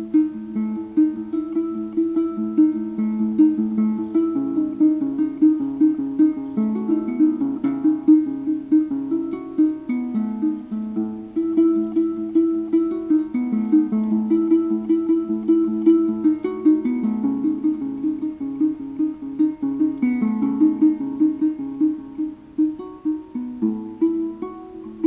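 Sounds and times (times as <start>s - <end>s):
plucked lute: 0.0s - 25.0s.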